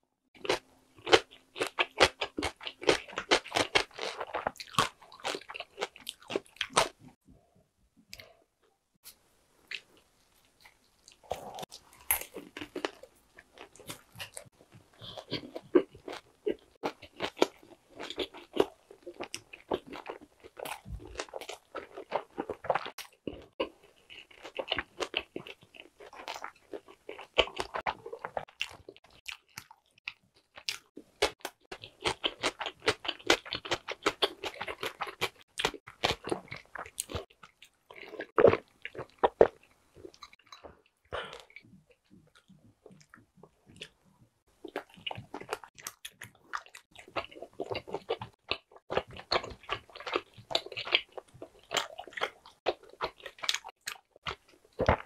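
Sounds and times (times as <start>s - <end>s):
crunchy chewing of pizza: 0.4s - 7.1s, 9.0s - 55.0s.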